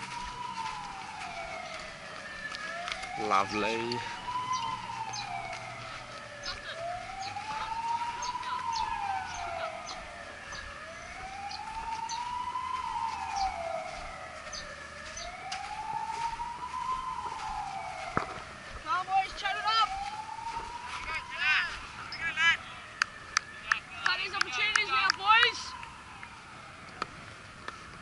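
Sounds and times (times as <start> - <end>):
siren wailing: 0.0 - 27.9.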